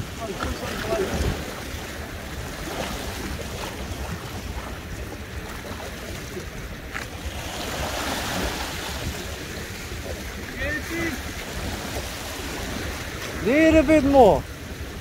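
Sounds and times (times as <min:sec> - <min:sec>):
sea waves washing against rocks: 0:00.0 - 0:15.0
wind buffeting microphone: 0:00.0 - 0:15.0.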